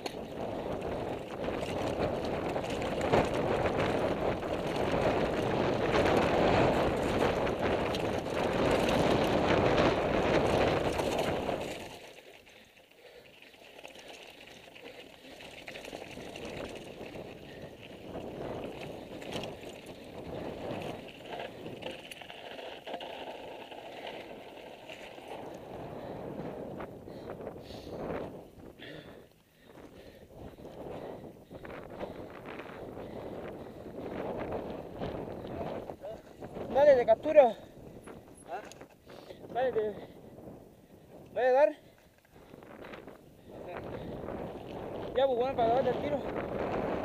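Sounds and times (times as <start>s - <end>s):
wind rushing over camera: 0.0s - 12.0s, 15.6s - 41.7s, 42.3s - 47.0s
bike rattling over stones: 0.0s - 40.6s, 41.3s - 47.0s.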